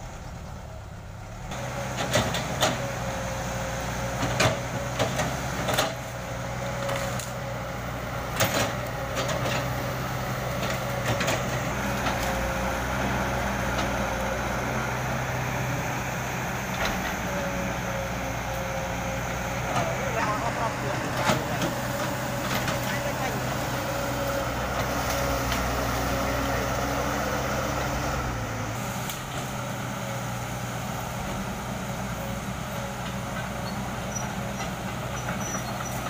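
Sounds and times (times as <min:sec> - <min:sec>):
excavator diesel engine whining: 0:00.0 - 0:36.0.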